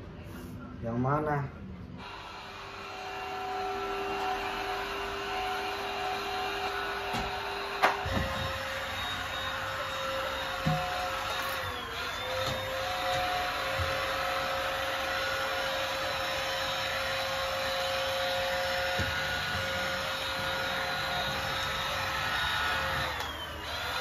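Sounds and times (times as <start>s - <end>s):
vacuum cleaner running: 2.0s - 24.0s.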